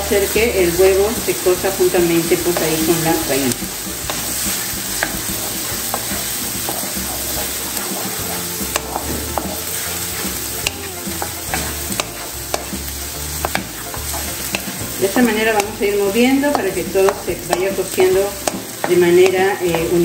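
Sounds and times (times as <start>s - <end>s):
food sizzling in a frying pan: 0.0s - 20.0s
wooden spatula scraping a pan: 1.8s - 20.0s.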